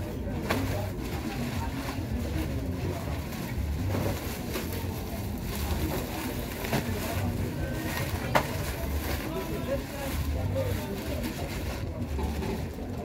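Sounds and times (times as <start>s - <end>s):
plastic and sack wrapping rustling: 0.0s - 13.0s.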